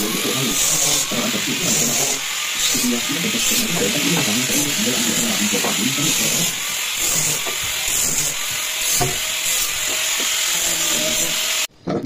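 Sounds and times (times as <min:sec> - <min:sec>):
loud steady hiss: 0:00.0 - 0:11.7.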